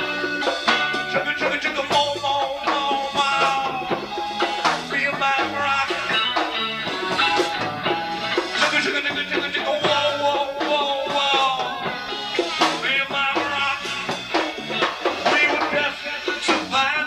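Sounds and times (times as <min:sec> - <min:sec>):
bass guitar: 0:00.0 - 0:17.0
bongos: 0:00.0 - 0:17.0
drum kit: 0:00.0 - 0:17.0
electric guitar: 0:00.0 - 0:17.0
person singing: 0:00.0 - 0:17.0.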